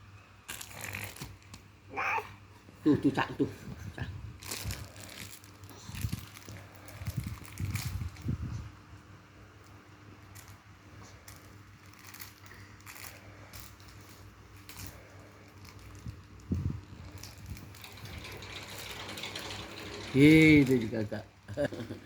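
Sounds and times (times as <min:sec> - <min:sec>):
faint rustling and crinkling: 0:00.5 - 0:21.2.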